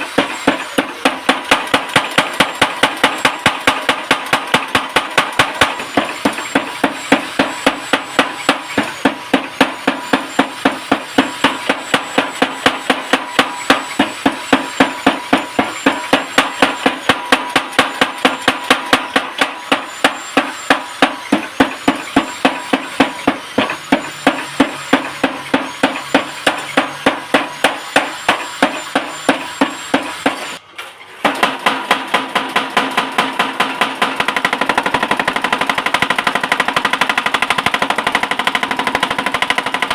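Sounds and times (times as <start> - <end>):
hammer striking metal on anvil: 0.0 - 30.6, 31.2 - 39.9.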